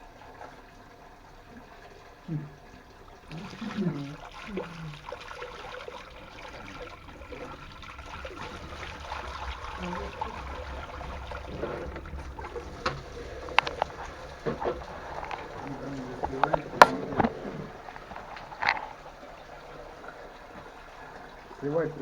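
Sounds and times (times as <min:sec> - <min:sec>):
water rushing out of pipe: 0:00.0 - 0:22.0.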